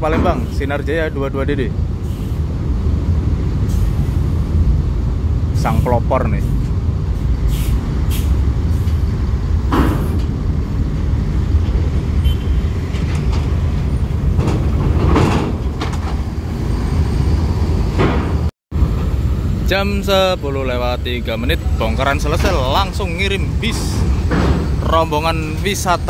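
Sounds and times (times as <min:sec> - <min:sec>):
diesel bus engine rumbling: 0:00.0 - 0:26.0.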